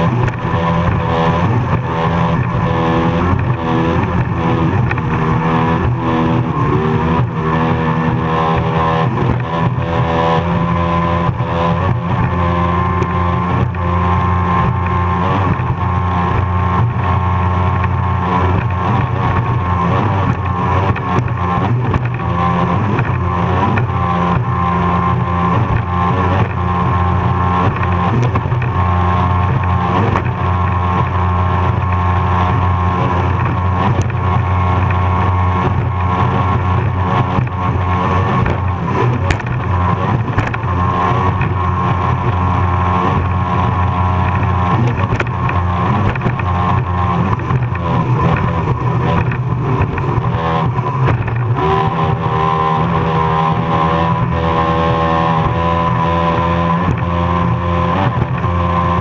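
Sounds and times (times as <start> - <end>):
powerboat engine at high revs: 0.0 - 59.0
rush of wind and water: 0.0 - 59.0.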